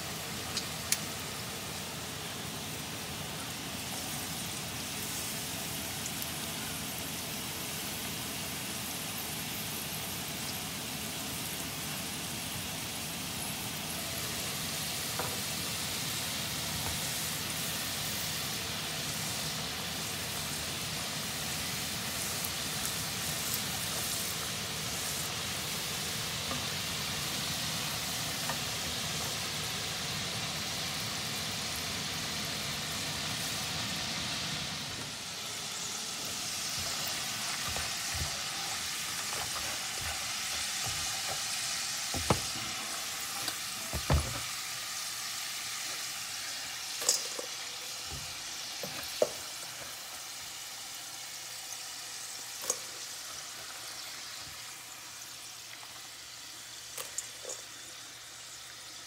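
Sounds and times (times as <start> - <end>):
fries sizzling in hot oil: 0.0 - 59.0.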